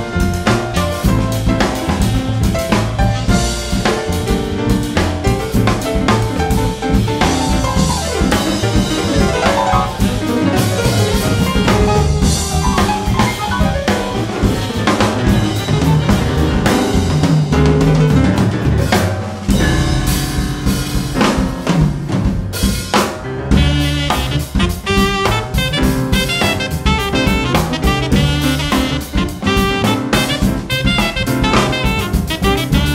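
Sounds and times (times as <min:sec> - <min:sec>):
bass drum thumps: 0:00.0 - 0:32.9
bass line: 0:00.0 - 0:32.9
busy snare drum: 0:00.0 - 0:32.9
jazz quartet playing: 0:00.0 - 0:32.9.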